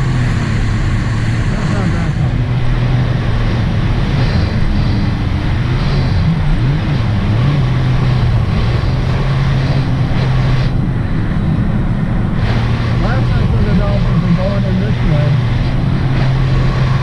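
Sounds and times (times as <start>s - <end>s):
personal watercraft engine running: 0.0s - 17.0s
steady rush of noise: 0.0s - 17.0s.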